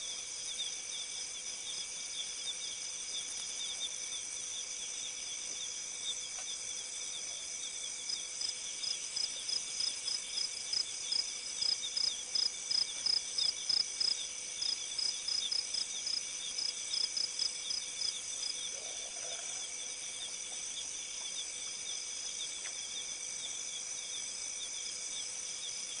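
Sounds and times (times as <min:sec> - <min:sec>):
insect chirping: 0:00.0 - 0:26.0
insects trilling: 0:00.0 - 0:26.0.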